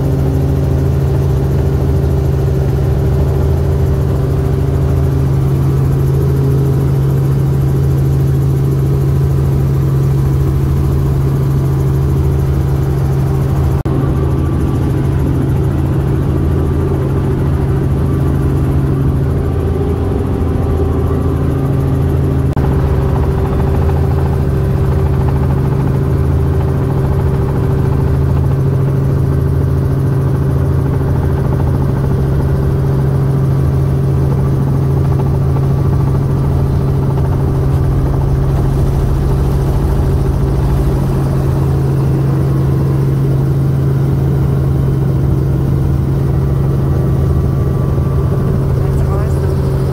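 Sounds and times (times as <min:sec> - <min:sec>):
helicopter engine and rotor drone: 0:00.0 - 0:49.9.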